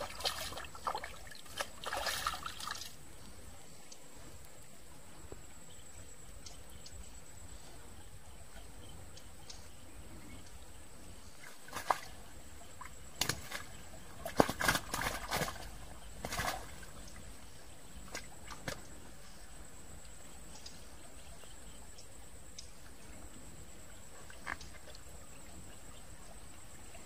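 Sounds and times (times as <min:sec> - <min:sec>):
stream water trickling: 0:00.0 - 0:27.0.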